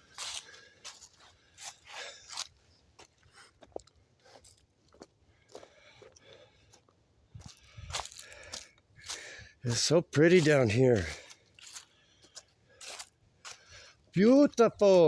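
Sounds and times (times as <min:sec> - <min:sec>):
footsteps crunching on rough ground: 0:00.0 - 0:15.0.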